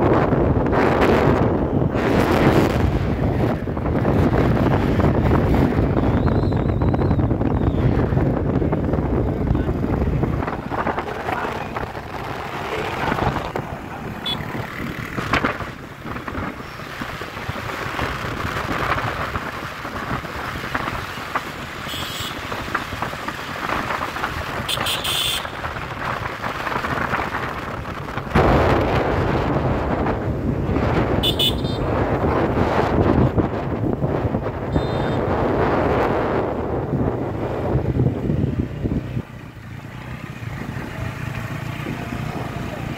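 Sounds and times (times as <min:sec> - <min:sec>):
road noise: 0:00.0 - 0:42.9
wind buffeting microphone: 0:00.0 - 0:42.9.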